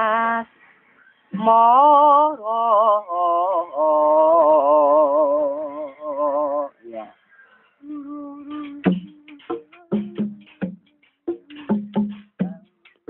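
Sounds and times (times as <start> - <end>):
person singing with vibrato: 0.0 - 6.8, 7.8 - 13.0.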